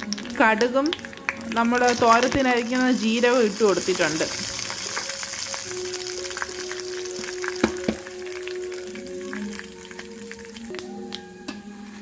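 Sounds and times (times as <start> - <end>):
background music: 0.0 - 12.0
seeds sizzling in hot oil: 0.0 - 12.0.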